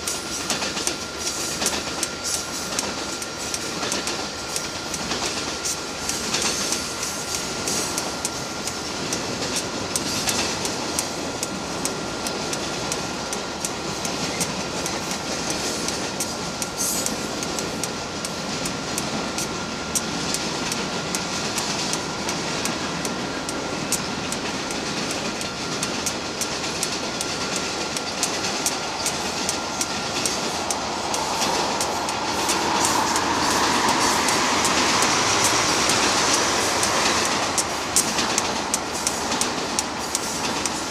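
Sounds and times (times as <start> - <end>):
freight train wheels rumbling: 0.0 - 40.9
wheels clicking over rail joints: 0.0 - 40.9.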